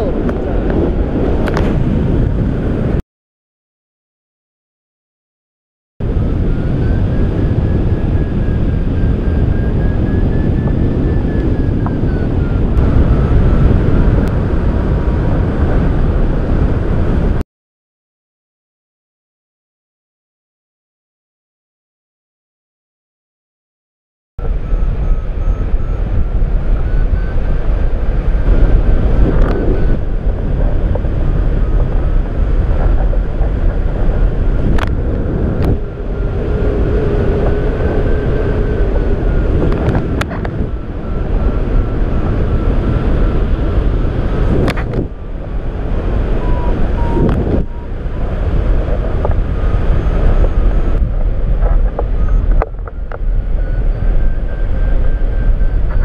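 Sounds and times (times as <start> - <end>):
wind rushing over microphone: 0.0 - 3.0, 6.0 - 17.4, 24.4 - 56.0.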